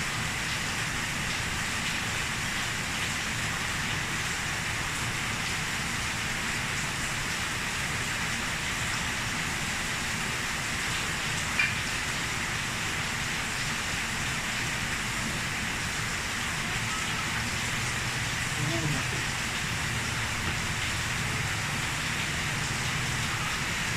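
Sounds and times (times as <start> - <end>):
rain falling: 0.0 - 23.9.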